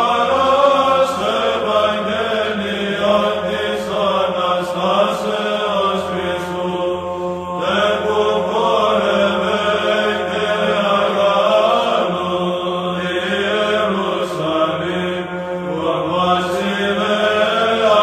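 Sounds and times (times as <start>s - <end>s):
chant melody sung: 0.0s - 18.0s
held vocal drone: 0.0s - 18.0s.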